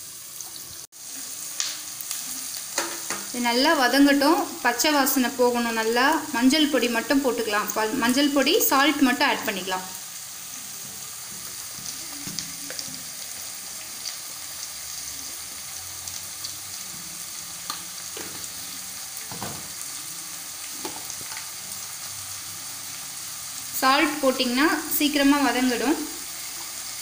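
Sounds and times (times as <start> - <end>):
vegetables sizzling in a pan: 0.0 - 27.0.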